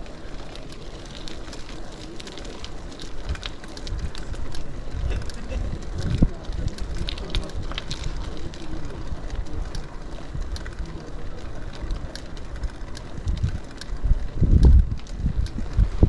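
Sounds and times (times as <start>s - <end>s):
bicycle rattling over brick paving: 0.0s - 16.0s
wind buffeting microphone: 0.0s - 16.0s.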